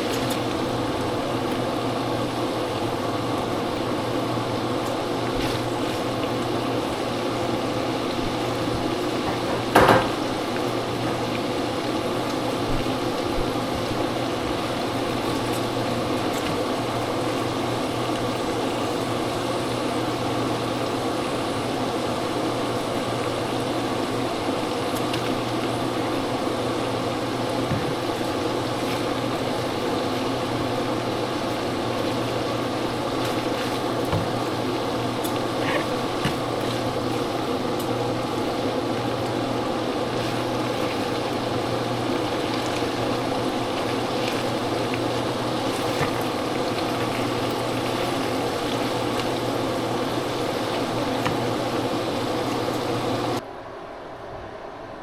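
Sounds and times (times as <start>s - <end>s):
mechanical motor hum: 0.0s - 55.0s.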